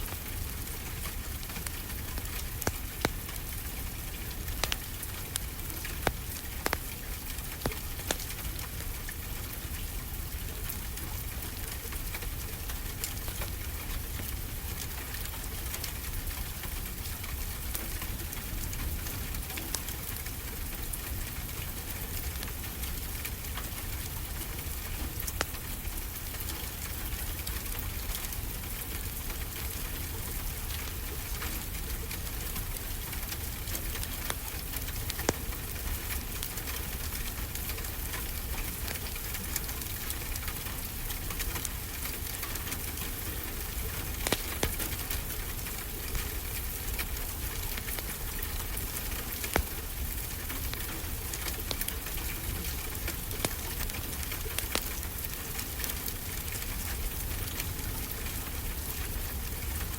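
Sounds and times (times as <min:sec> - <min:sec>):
steady rain: 0:00.0 - 0:59.9
wood fire crackling: 0:00.0 - 0:59.9.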